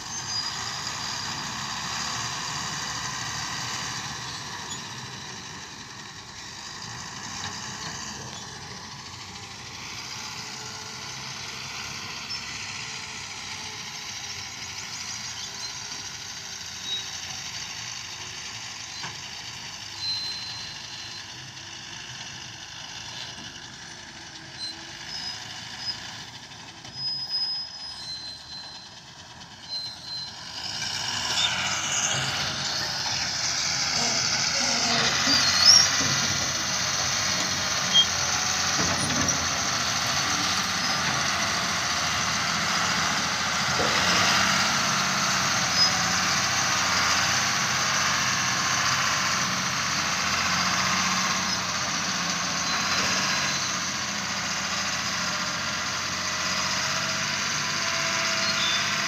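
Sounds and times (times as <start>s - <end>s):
diesel truck engine running: 0.0s - 59.0s
truck road and body noise: 0.0s - 59.0s.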